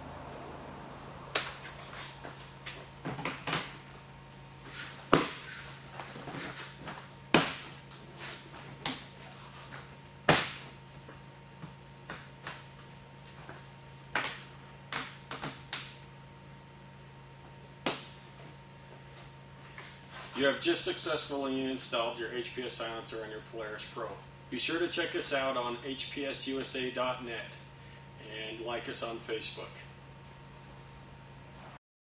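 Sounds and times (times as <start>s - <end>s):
faint steady hum: 0.0s - 31.8s.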